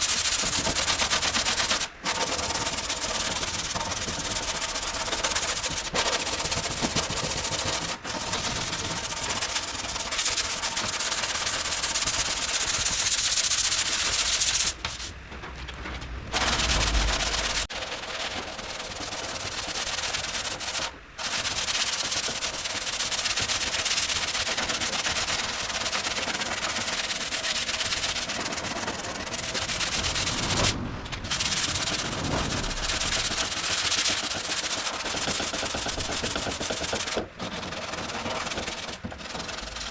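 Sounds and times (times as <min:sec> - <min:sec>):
sanding block rubbing on filler: 0:00.0 - 0:15.2, 0:16.3 - 0:39.9.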